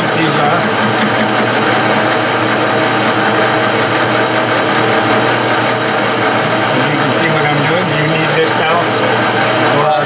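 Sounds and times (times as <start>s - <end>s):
metal lathe humming: 0.0s - 10.0s.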